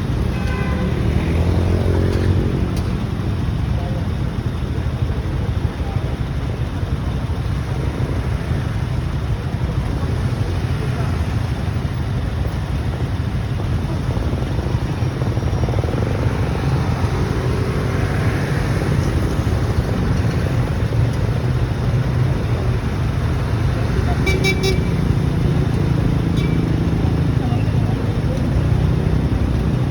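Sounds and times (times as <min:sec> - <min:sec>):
motorcycle engine: 0:00.0 - 0:29.9
road noise: 0:00.0 - 0:29.9.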